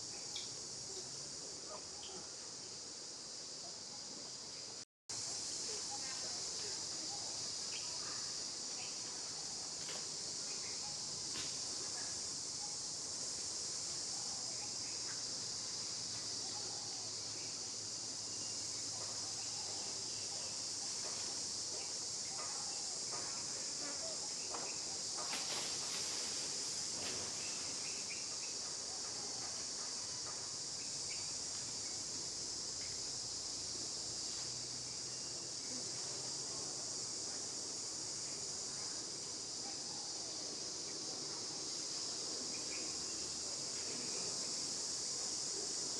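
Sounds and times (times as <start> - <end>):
insect chorus: 0.0 - 45.9.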